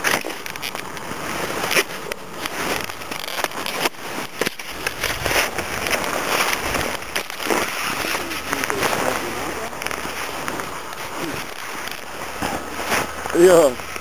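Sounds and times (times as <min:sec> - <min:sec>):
gear crackling and rustling: 0:00.0 - 0:14.0
wind rumbling on microphone: 0:00.0 - 0:14.0.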